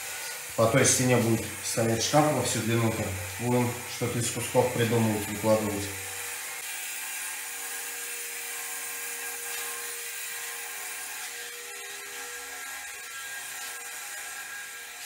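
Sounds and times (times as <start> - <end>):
angle grinder cutting tile: 0.0 - 15.0.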